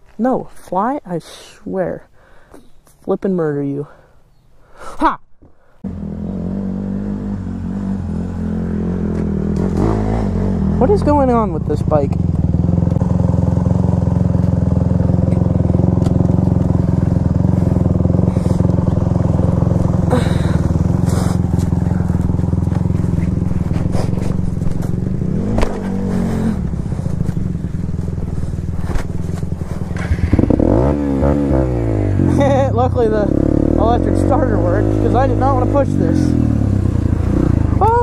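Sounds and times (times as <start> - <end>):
dirt bike engine at low speed: 5.8 - 38.0.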